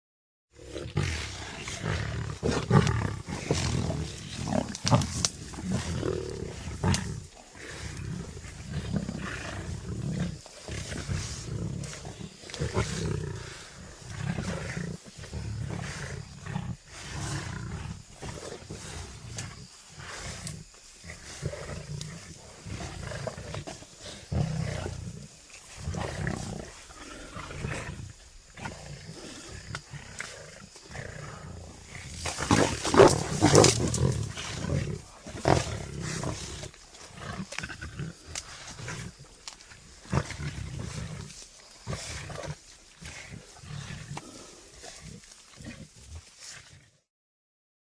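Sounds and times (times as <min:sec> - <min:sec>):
lion roaring: 0:00.6 - 0:39.2.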